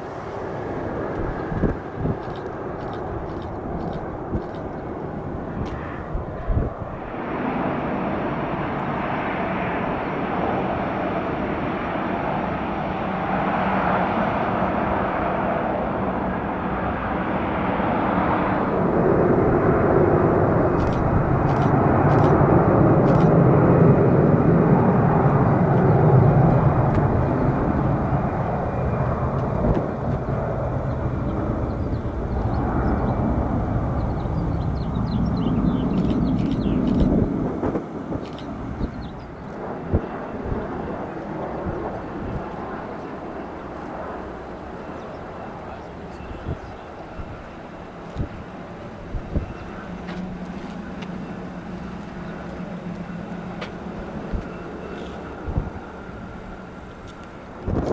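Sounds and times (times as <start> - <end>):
jet engine rushing: 0.0 - 57.9.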